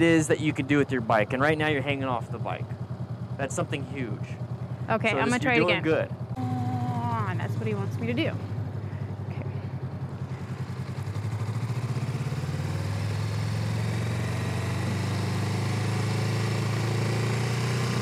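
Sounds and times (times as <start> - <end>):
motorcycle engine at low speed: 0.0 - 18.0.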